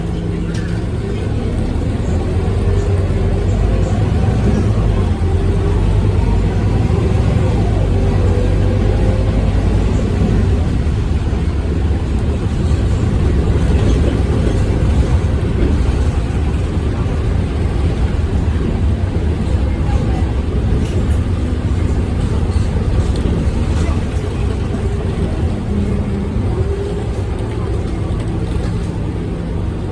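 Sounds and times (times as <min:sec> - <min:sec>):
bus diesel engine rumbling: 0:00.0 - 0:29.9.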